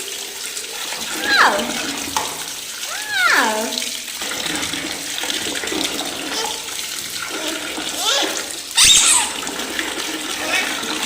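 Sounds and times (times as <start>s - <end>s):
water sloshing in a baby bath: 0.0s - 11.0s.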